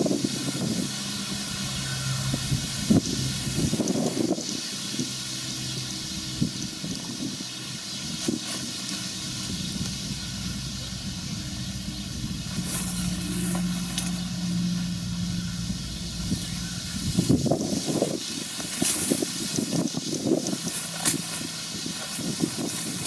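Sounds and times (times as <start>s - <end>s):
low hum: 0.0s - 22.4s
combine harvester engine drone: 0.0s - 23.0s
hiss: 0.0s - 23.0s.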